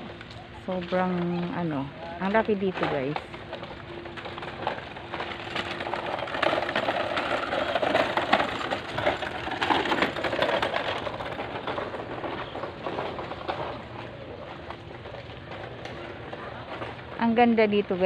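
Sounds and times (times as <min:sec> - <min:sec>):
hand truck wheels rattling on concrete: 0:00.0 - 0:18.0.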